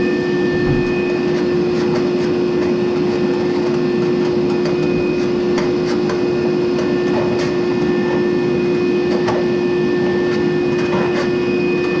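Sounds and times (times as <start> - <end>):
clothes dryer running: 0.0 - 12.0.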